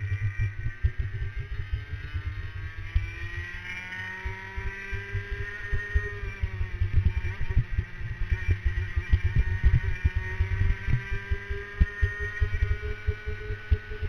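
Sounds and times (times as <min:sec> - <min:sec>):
kart engine revving: 0:00.0 - 0:14.0.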